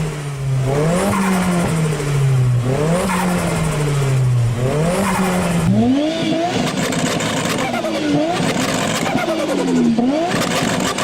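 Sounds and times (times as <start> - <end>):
turbocharged car engine revving: 0.0 - 11.0.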